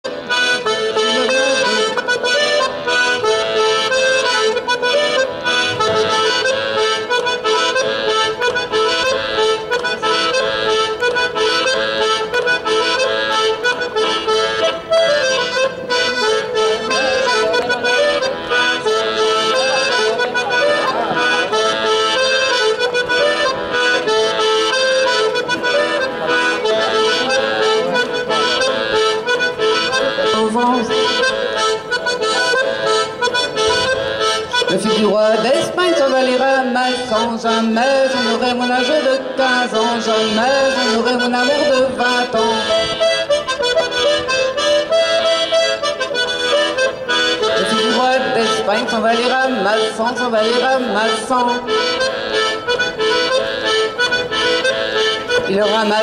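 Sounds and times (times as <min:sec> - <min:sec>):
instrumental folk tune: 0:00.0 - 0:56.0.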